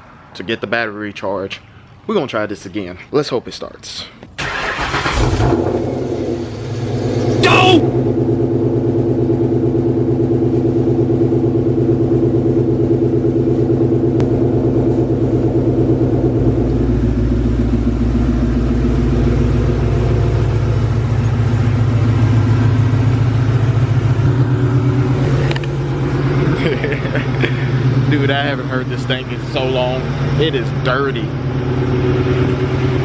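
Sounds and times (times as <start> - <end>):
car engine idling: 4.4 - 33.0.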